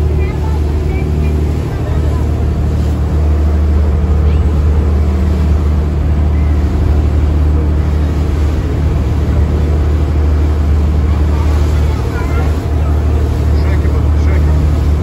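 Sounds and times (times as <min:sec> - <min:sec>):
boat engine droning: 0:00.0 - 0:15.0
water and wind hiss: 0:00.0 - 0:15.0.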